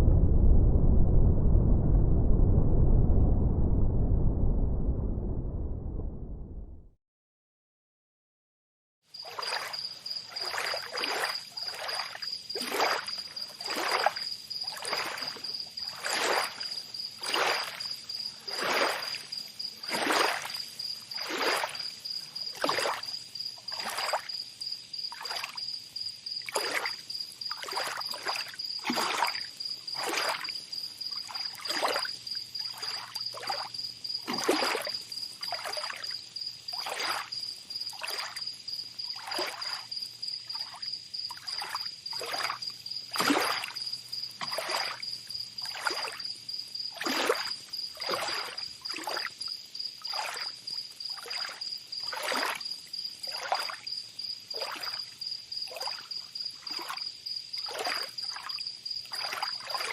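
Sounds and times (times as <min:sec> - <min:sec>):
high-pitched insect trill: 0:09.1 - 0:59.9
water splashing and lapping: 0:09.2 - 0:24.4, 0:25.1 - 0:25.6, 0:26.4 - 0:59.9.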